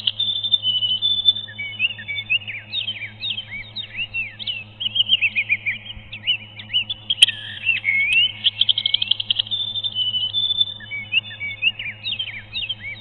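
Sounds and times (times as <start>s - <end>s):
songbird chirps and trill: 0.0s - 13.0s
steady low hum: 0.0s - 13.0s.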